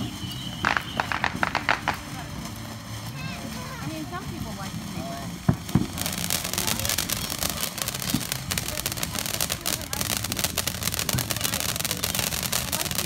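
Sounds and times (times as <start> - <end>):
firework crackling and hissing: 0.0 - 13.0.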